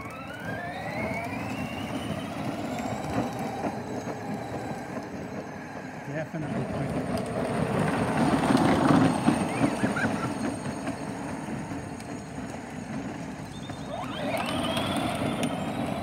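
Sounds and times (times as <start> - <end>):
electric motors whirring: 0.0 - 5.4, 6.5 - 16.0
plastic wheels rumbling on pavement: 0.0 - 16.0.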